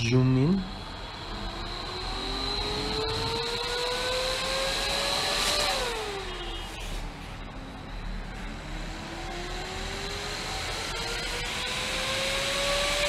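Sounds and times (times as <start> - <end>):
exhaust fan running: 0.0 - 13.0
fan motor whine: 0.0 - 13.0.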